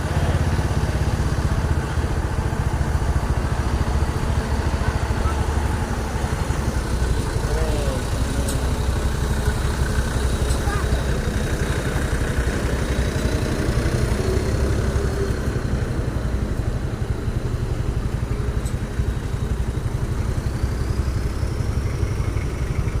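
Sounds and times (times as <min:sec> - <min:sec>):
diesel bus engine idling: 0:00.0 - 0:23.0.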